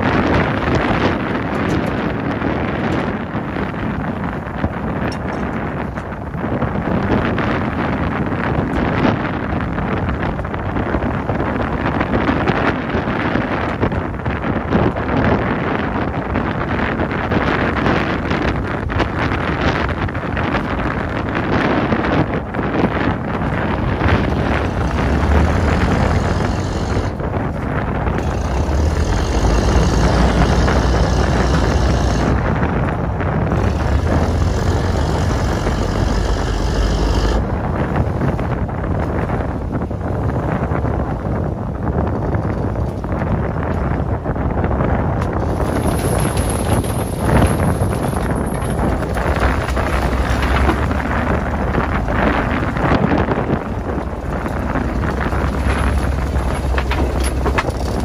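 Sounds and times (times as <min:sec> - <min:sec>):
boat engine running: 0:00.0 - 0:41.1, 0:44.8 - 0:58.0
wind buffeting microphone: 0:00.0 - 0:58.0.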